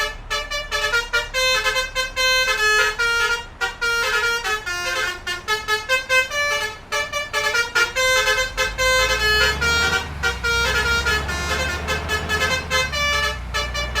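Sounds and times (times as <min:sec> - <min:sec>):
bus horn playing a tune: 0:00.0 - 0:14.0.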